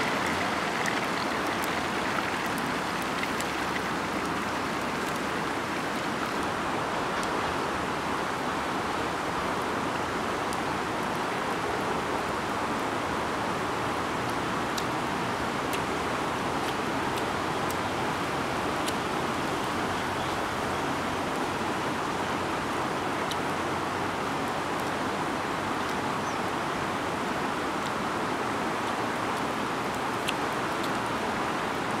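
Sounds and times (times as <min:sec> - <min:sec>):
river water rushing over stones: 0:00.0 - 0:32.0.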